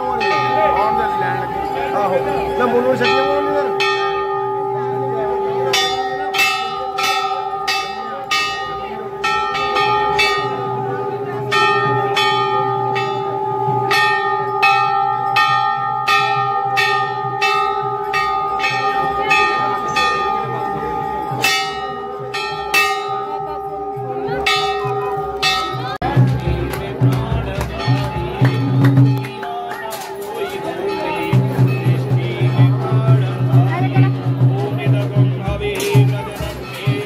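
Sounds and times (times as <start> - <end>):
crowd voices: 0.0 - 37.0
metal temple bells ringing: 0.0 - 37.0.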